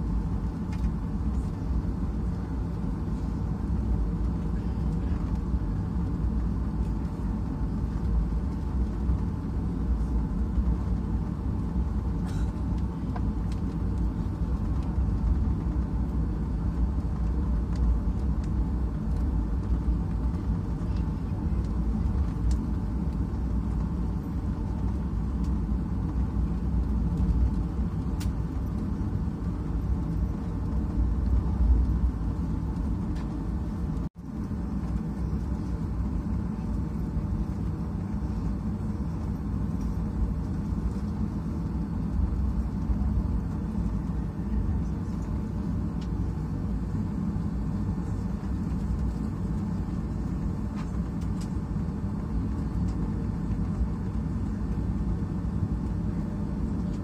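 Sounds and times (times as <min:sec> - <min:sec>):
airplane cabin low rumble: 0:00.0 - 0:57.0.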